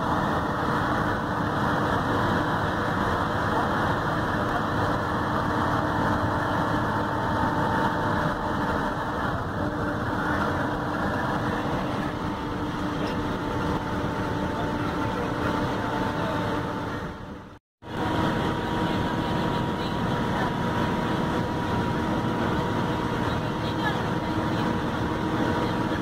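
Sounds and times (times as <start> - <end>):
bus engine and road drone: 0.0 - 26.0.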